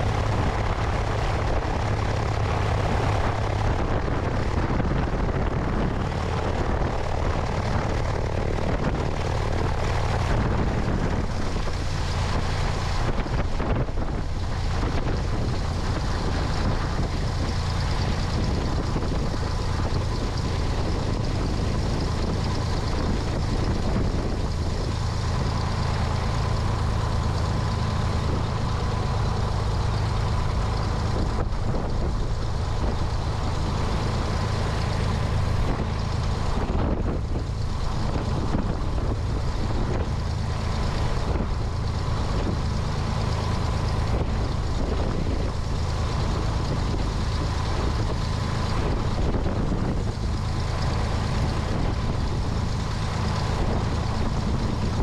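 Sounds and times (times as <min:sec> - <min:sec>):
aircraft engine and propeller: 0:00.0 - 0:55.0
wind rushing over microphone: 0:00.0 - 0:55.0.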